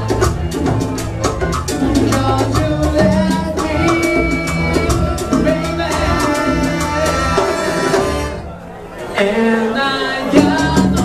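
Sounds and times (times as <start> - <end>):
salsa band playing live: 0.0 - 11.0.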